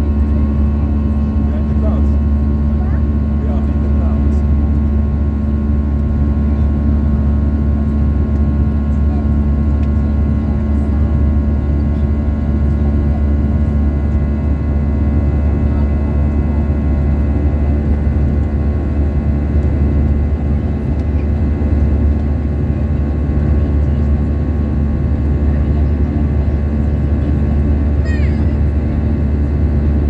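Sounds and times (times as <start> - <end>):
jet engine cabin drone: 0.0 - 30.0.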